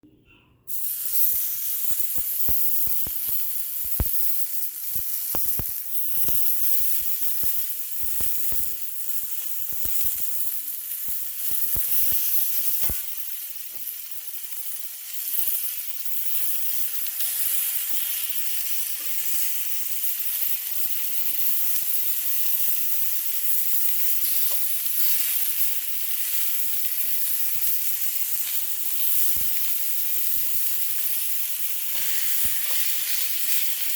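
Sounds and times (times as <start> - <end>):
beef sizzling on a grill: 0.7 - 33.9.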